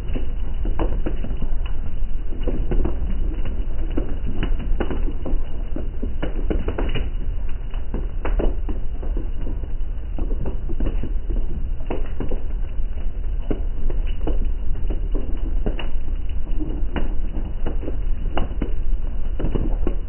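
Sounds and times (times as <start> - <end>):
heavy rain on window glass: 0.0 - 20.0
low rumble: 0.0 - 20.0.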